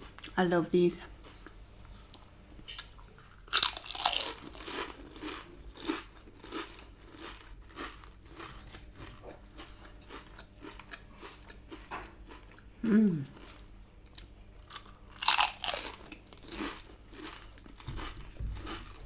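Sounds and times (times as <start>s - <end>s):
chewing: 1.2s - 19.0s
crunching of fried food bite: 2.7s - 12.6s, 13.4s - 19.0s.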